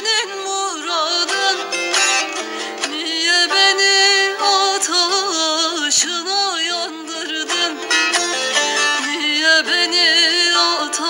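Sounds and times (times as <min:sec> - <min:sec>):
folk instrumental music: 0:00.0 - 0:11.0.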